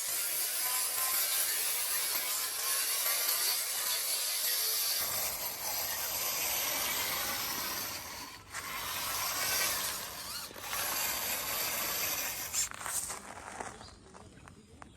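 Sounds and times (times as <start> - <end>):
toy tractor motor whirring: 0.0 - 13.8.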